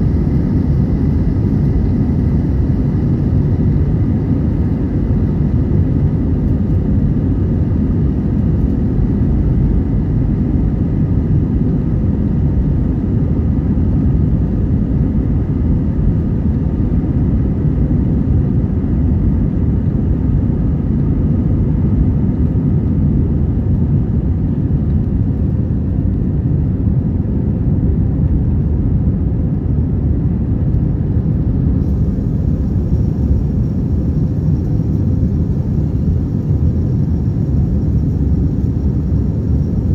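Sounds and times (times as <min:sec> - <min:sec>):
faint engine whine: 0:00.0 - 0:39.9
jet engines rumbling: 0:00.0 - 0:39.9.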